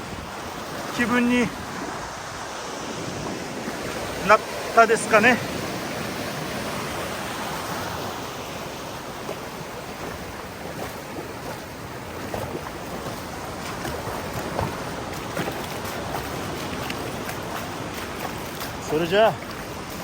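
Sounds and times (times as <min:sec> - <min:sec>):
surf washing onto beach: 0:00.0 - 0:20.0.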